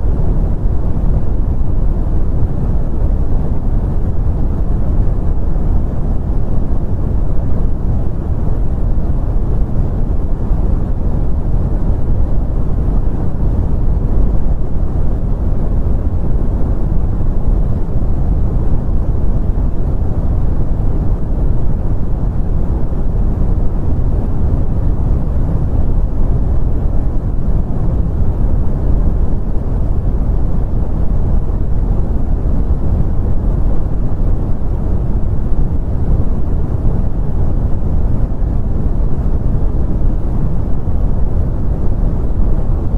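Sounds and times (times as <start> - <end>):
brown noise rumbling hiss: 0.0 - 42.9.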